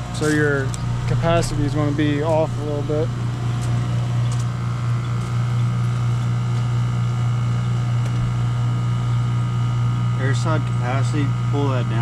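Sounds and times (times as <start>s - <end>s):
faint whine: 0.0s - 12.0s
heat pump humming: 0.0s - 12.0s.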